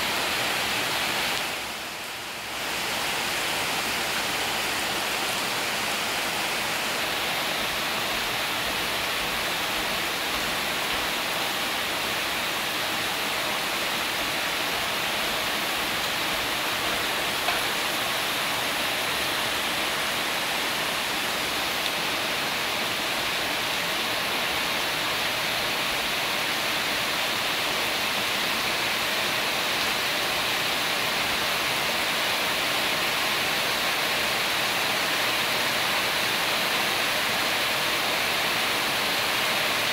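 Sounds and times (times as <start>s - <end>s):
heavy rain on tin roofs: 0.0s - 39.9s.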